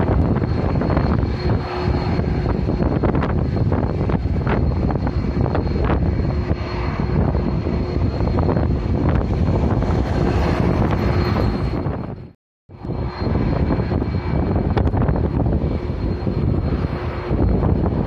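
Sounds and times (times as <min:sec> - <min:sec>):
airliner engine rumble: 0:00.0 - 0:18.0
wind buffeting microphone: 0:00.0 - 0:18.0.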